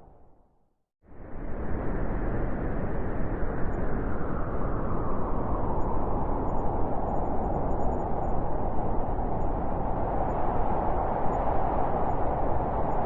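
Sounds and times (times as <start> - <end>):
strong wind blowing: 1.2 - 13.0.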